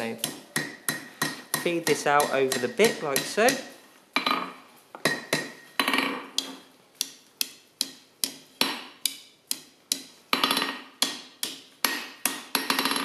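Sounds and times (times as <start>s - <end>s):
hammer striking metal on anvil: 0.2s - 6.6s, 7.4s - 13.0s.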